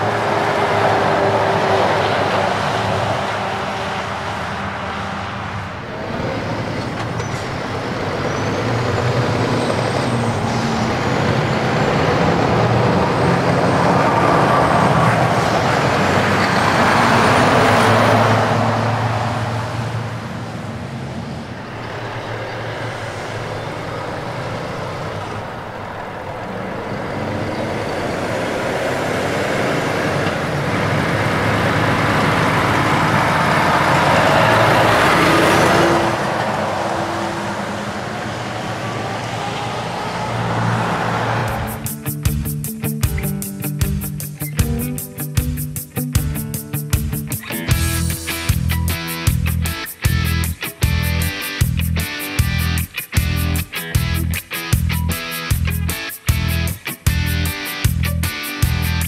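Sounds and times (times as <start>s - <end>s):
trucks passing on road: 0.0s - 59.0s.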